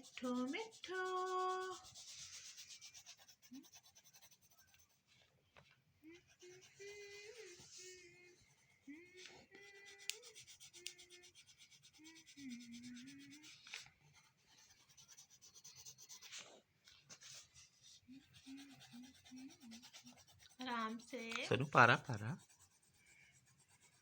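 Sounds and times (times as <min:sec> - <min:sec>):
colouring strokes scratching paper: 0:00.0 - 0:24.0.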